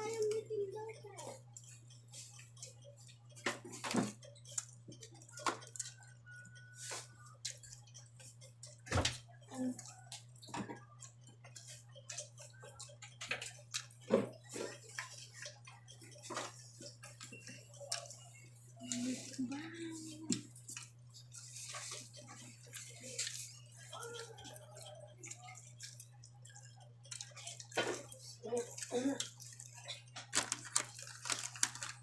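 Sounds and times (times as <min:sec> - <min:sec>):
wet chewing and lip-smacking: 0:01.5 - 0:19.4, 0:20.3 - 0:32.0.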